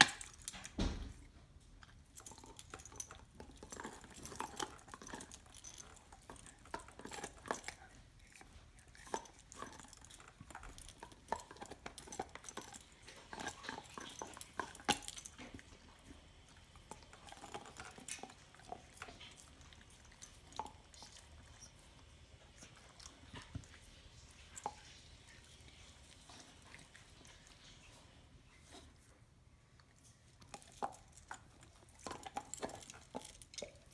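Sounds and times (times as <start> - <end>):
dog chewing a bone: 0.0 - 29.1, 29.7 - 33.9.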